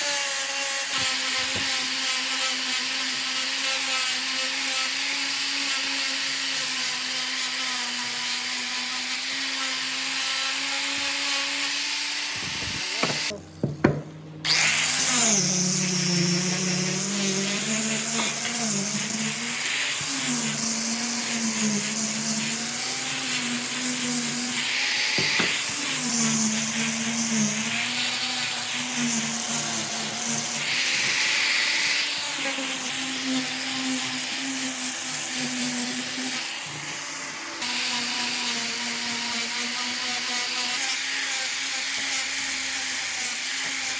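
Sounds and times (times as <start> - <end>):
electric power tool motor: 0.0 - 43.9.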